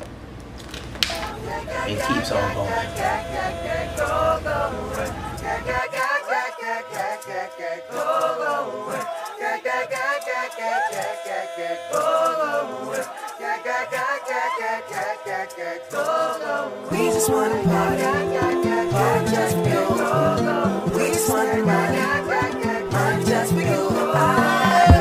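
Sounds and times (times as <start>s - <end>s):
choral singing: 1.1s - 25.0s.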